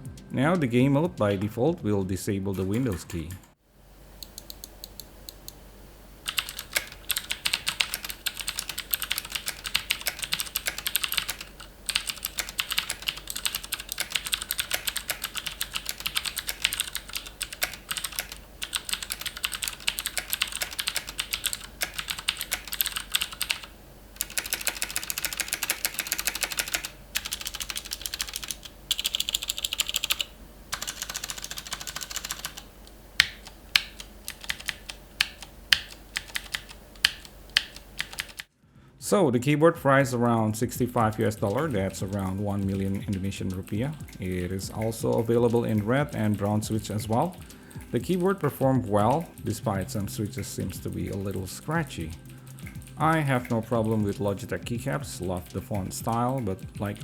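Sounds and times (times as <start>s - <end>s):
fast typing on mechanical keyboard: 6.2s - 38.5s, 40.6s - 57.0s.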